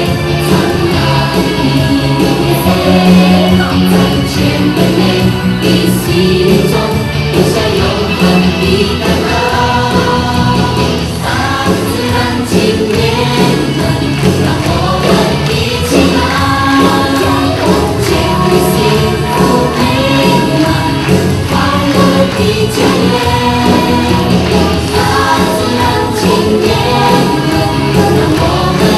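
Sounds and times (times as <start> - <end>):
choir singing over a beat: 0.0 - 28.9.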